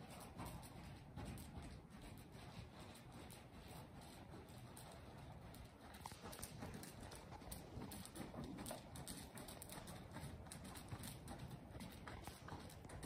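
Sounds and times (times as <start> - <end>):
hooves thudding on dirt: 0.0 - 13.0.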